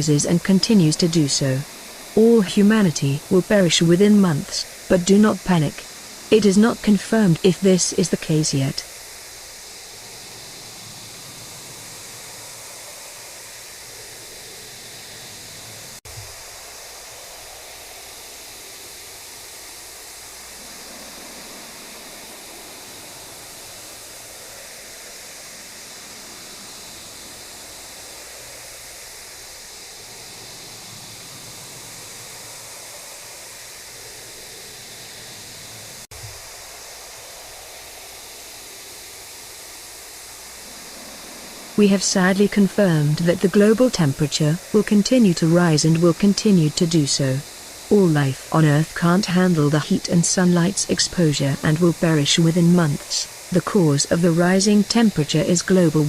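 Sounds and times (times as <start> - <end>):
low hum: 0.0 - 39.0, 40.0 - 56.0
static hiss: 0.0 - 56.0.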